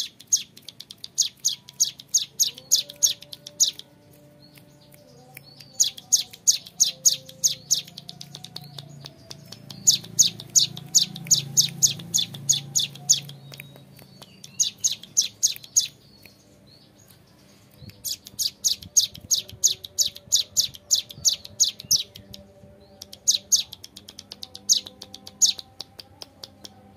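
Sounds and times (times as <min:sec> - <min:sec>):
bird singing rapid high trills: 0:00.0 - 0:25.8.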